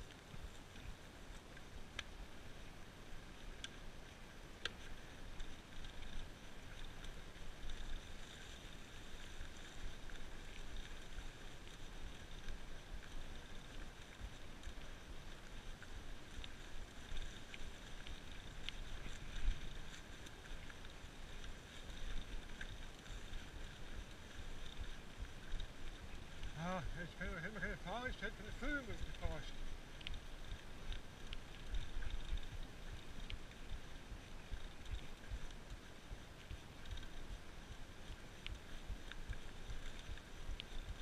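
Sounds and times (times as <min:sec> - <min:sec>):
bike tyres on dirt trail: 0:00.0 - 0:41.0.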